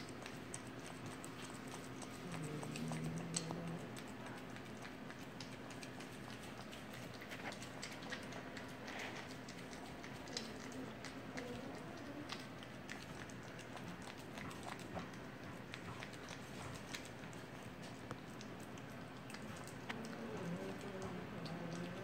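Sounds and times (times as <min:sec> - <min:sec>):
puppy lapping and chewing: 0:00.0 - 0:22.0.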